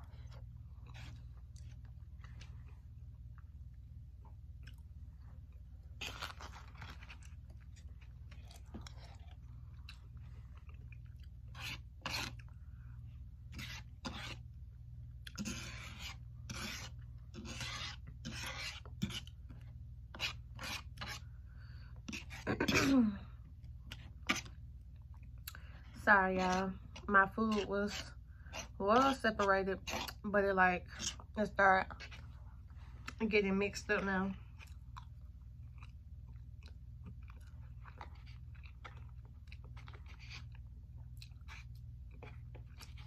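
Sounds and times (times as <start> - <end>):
person chewing with wet mouth noises: 0.0 - 30.2, 34.0 - 43.0.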